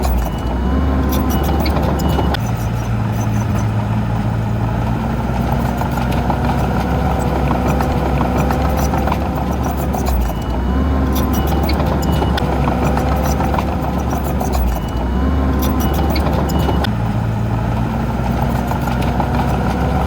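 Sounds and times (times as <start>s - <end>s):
diesel engine under load: 0.0s - 20.0s.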